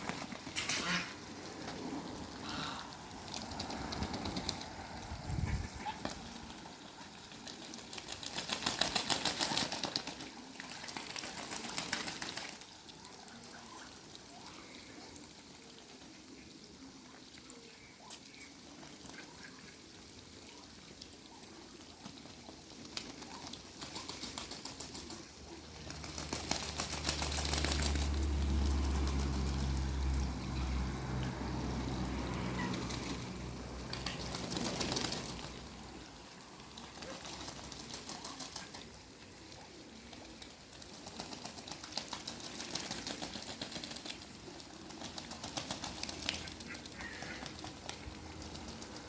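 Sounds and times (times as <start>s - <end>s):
birds splashing and wing beating: 0.0s - 49.0s.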